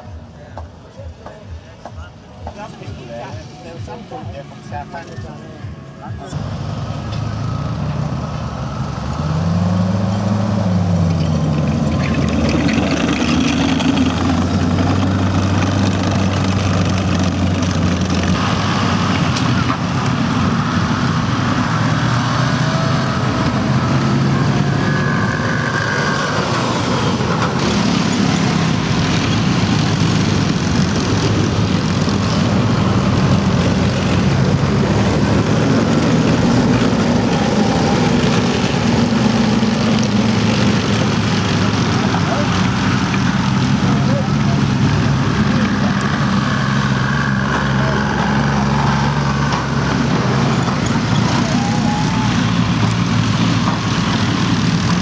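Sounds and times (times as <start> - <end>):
tracked vehicle engine revving: 6.2 - 55.0.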